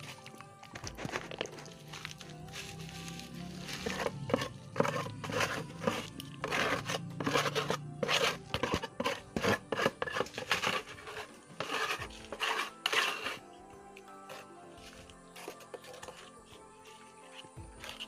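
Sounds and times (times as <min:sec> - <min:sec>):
trowel scraping wet mortar: 0:00.0 - 0:13.6, 0:14.2 - 0:18.0.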